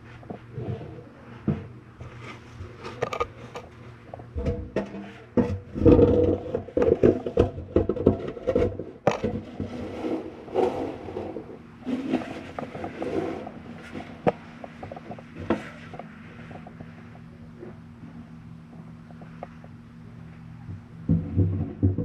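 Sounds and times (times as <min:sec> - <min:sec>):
faint steady hum: 0:00.0 - 0:22.0
knocking and scraping in a flue: 0:00.0 - 0:22.0.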